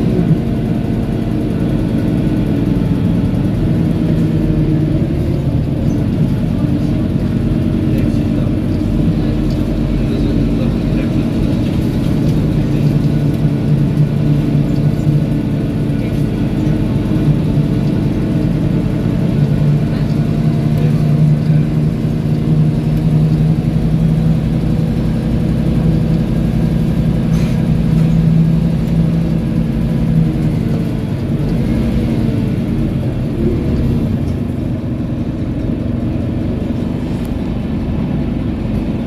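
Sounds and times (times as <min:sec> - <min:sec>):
bus diesel engine drone: 0:00.0 - 0:39.0.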